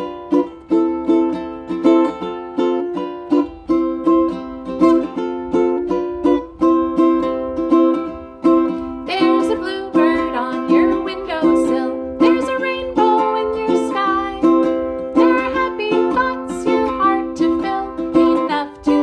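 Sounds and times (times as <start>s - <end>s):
chords strummed on strings: 0.0s - 19.0s.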